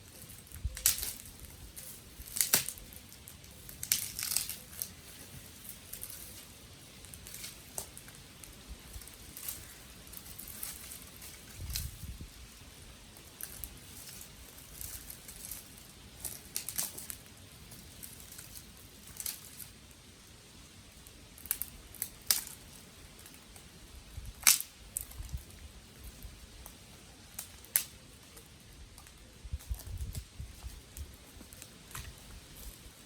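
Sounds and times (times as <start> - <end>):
twigs crackling and snapping: 0.0 - 33.0.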